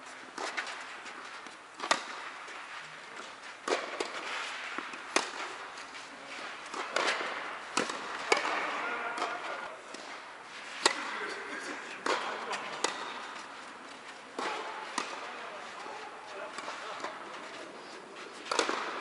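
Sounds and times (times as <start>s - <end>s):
tennis ball struck by rackets: 0.4s - 11.2s, 12.0s - 17.5s, 18.3s - 19.0s.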